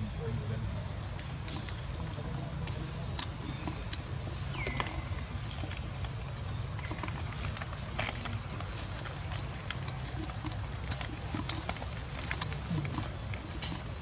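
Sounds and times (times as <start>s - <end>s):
monkey chewing leaves: 0.8s - 14.0s
leaves rustling and clicking: 0.9s - 14.0s.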